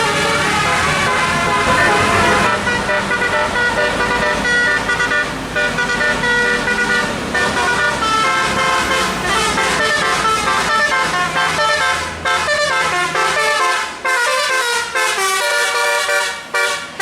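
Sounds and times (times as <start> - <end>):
musical air horn playing tune: 0.0 - 17.0.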